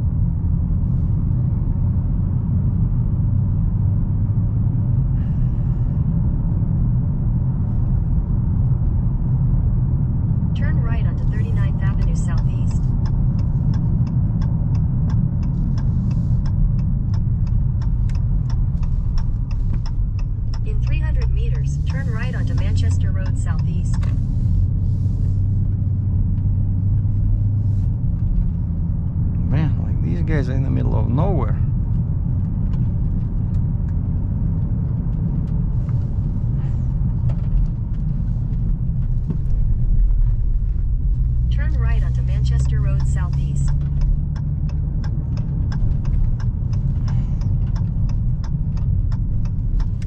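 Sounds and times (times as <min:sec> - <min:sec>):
car engine and road rumble: 0:00.0 - 0:50.0
turn signal ticking: 0:06.1 - 0:50.0.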